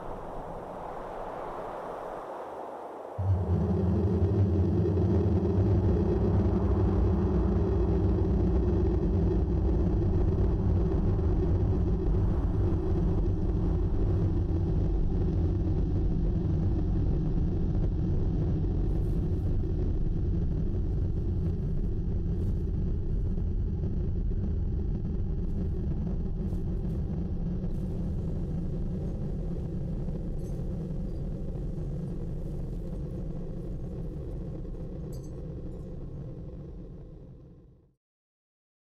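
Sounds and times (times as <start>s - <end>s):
low droning rumble: 3.2s - 37.7s.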